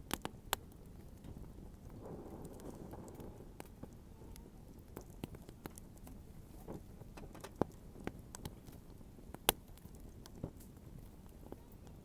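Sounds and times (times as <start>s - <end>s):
low background noise: 0.0s - 12.0s
wood fire crackling: 0.0s - 12.0s.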